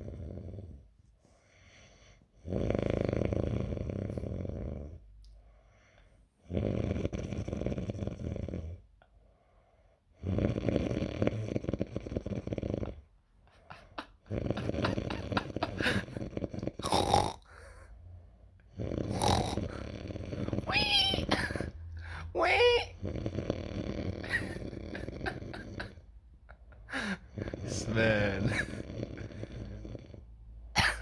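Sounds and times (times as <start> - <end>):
dog snoring: 0.0 - 0.9, 1.8 - 5.1, 6.4 - 8.9, 10.1 - 18.0, 18.6 - 26.1, 26.9 - 31.0.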